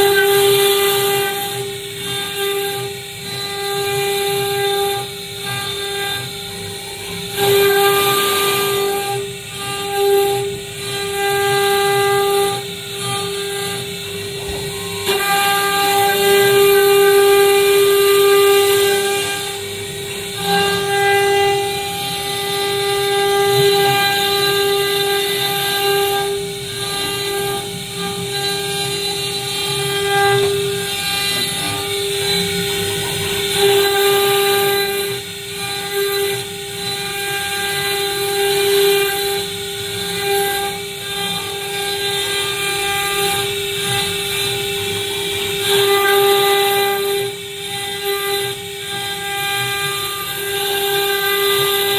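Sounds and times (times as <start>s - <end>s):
router spindle whining: 0.0s - 51.9s.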